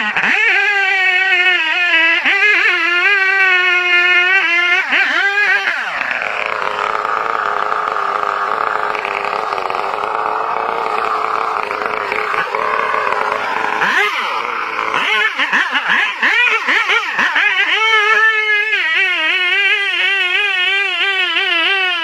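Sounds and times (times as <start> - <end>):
chainsaw cutting and revving: 0.0 - 22.0.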